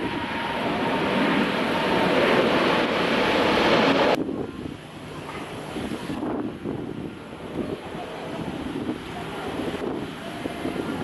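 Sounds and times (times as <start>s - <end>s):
jet engines on takeoff: 0.0s - 11.0s
wind noise on microphone: 0.0s - 11.0s.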